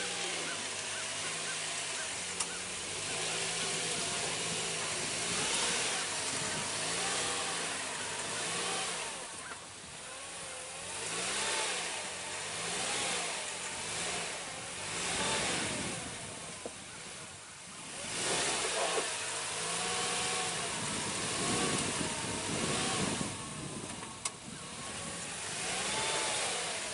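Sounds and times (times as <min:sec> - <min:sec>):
vehicle engine revving: 0:00.0 - 0:26.9.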